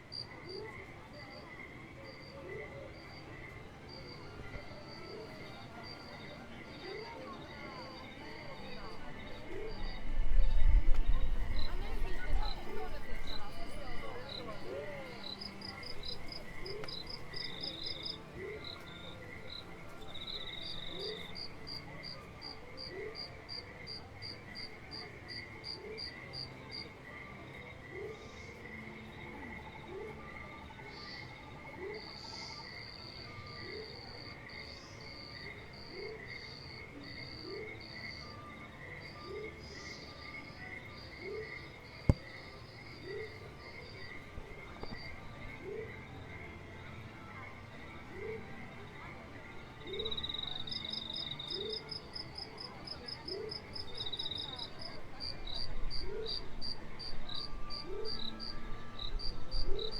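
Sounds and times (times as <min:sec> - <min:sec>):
insects chirping: 0:11.0 - 0:47.7, 0:48.4 - 0:59.9.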